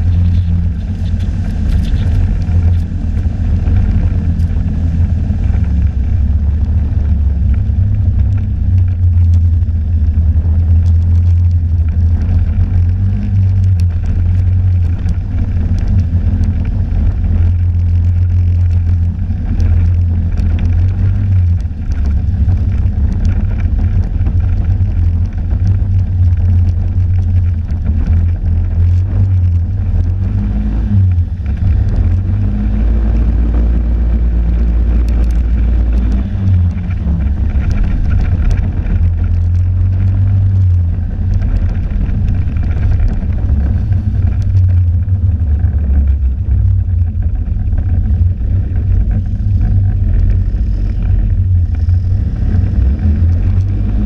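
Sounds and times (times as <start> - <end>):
snowmobile engine drone: 0.0 - 54.0.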